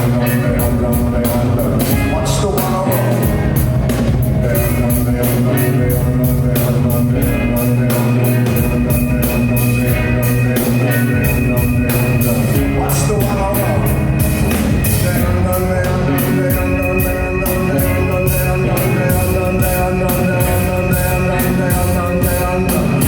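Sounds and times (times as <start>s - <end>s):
drum kit beat: 0.0s - 23.0s
sustained electric guitar: 0.0s - 23.0s.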